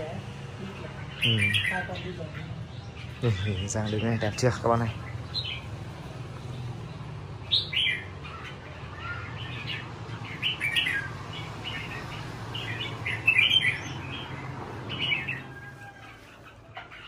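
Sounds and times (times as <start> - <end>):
bulbuls chirping: 0.0 - 17.0.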